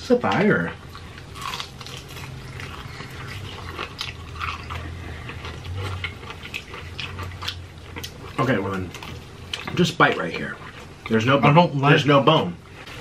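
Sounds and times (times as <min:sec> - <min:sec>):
low steady hum: 0:00.0 - 0:13.0
people chewing crispy fried chicken: 0:00.3 - 0:13.0.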